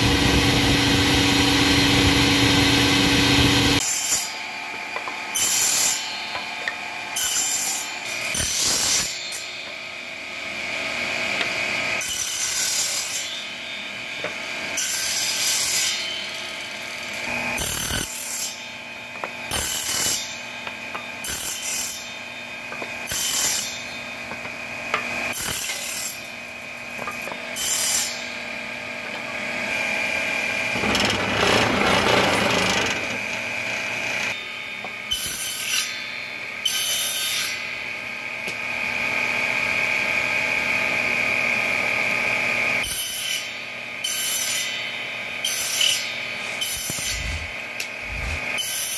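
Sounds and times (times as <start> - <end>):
saw blade cutting wood: 0.0 - 9.8, 11.3 - 37.8, 42.8 - 48.9
table saw whining: 0.0 - 48.9.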